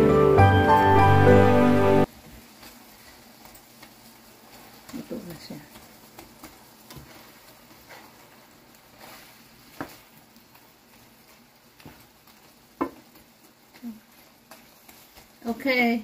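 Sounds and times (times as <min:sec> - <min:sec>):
utensils stirring food in a pan: 0:02.1 - 0:16.0.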